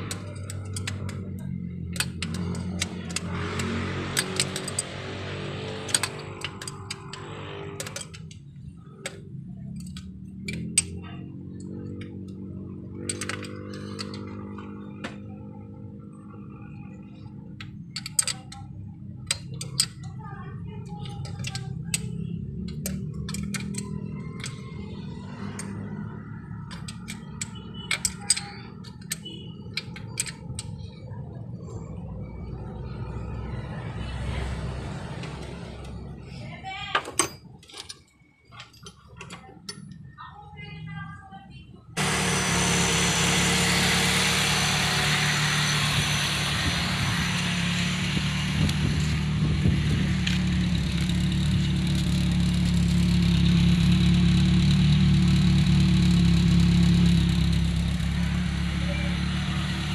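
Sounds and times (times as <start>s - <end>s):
metal tools clicking on engine parts: 0.0s - 40.4s, 48.6s - 58.0s.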